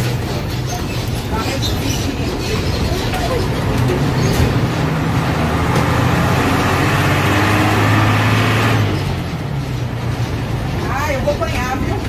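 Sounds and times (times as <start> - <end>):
bus engine running under load: 0.0 - 12.0
road noise: 0.0 - 12.0.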